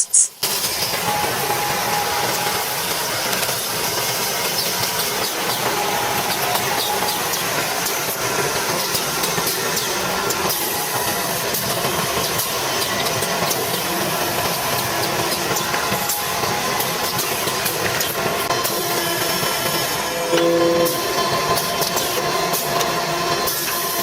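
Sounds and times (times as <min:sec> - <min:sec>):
machine hiss: 0:00.0 - 0:24.0
steady machine noise: 0:00.0 - 0:24.0.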